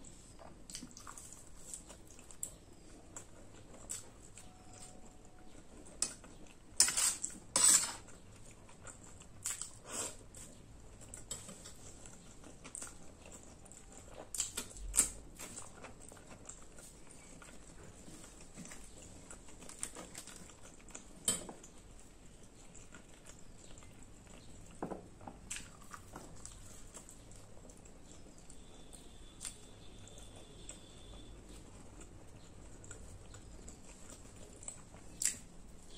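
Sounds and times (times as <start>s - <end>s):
chewing and wet mouth sounds: 0.1s - 35.9s.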